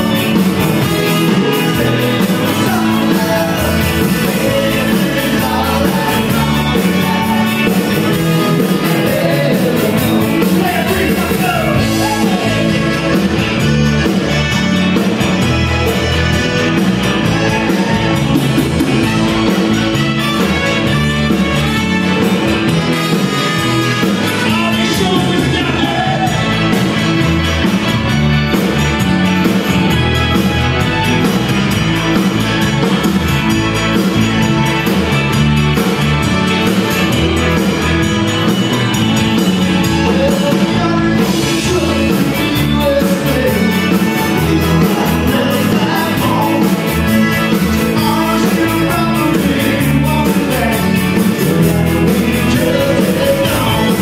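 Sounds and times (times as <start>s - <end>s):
accordion: 0.0s - 54.0s
drums: 0.0s - 54.0s
electric guitar: 0.0s - 54.0s
live band playing country-rock: 0.0s - 54.0s.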